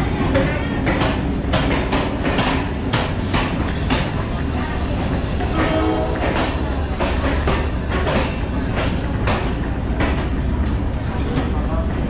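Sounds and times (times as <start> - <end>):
diesel train engine rumbling: 0.0 - 12.0.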